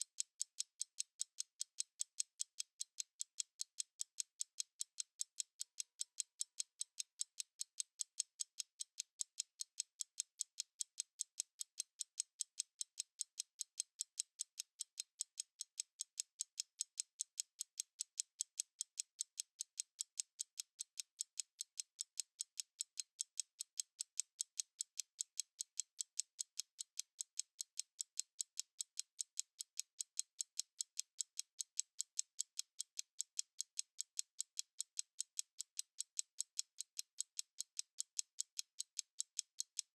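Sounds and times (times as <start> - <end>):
mechanical stopwatch ticking: 0.0 - 39.9.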